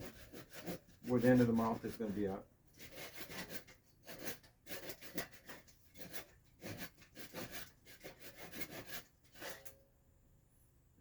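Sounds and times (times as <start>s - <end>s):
hand saw cutting wood: 0.0s - 9.7s.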